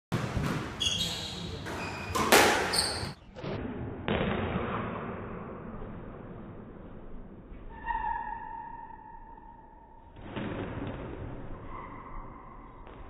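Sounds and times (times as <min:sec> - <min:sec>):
squash ball hitting rackets and walls: 0:00.1 - 0:07.9, 0:10.0 - 0:13.0.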